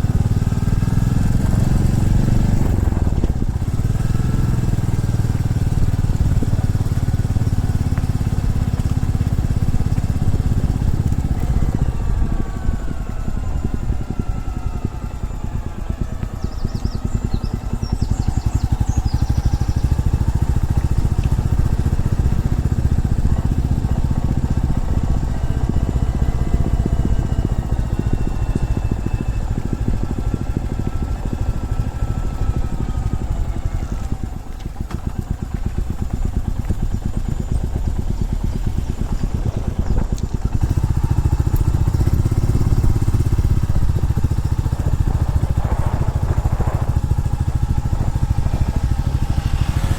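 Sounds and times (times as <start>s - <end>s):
motorcycle engine rumbling: 0.0s - 49.9s.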